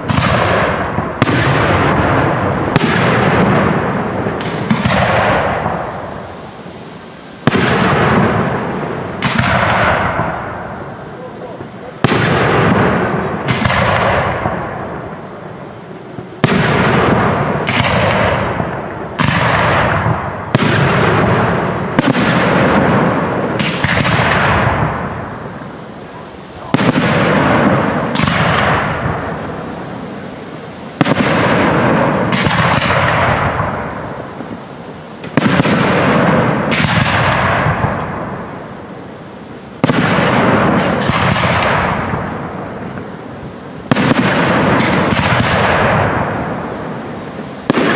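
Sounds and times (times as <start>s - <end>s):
firework shells bursting: 0.0s - 39.2s, 39.8s - 47.9s
rolling echo: 0.0s - 47.9s.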